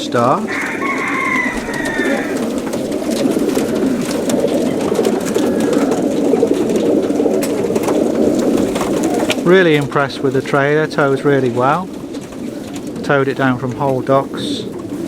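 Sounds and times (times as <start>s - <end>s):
high pigeon calls: 0.0s - 15.0s
pigeons cooing: 0.0s - 15.0s.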